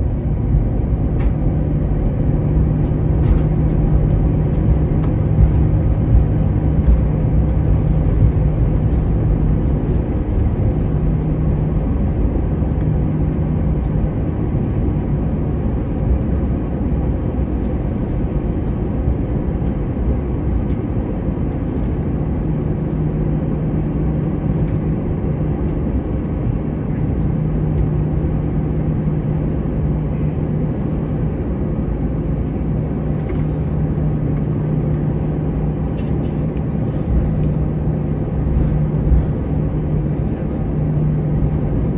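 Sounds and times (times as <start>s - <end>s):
jet engines idling and wheels rolling: 0.0s - 41.9s
steady hum: 0.0s - 41.9s.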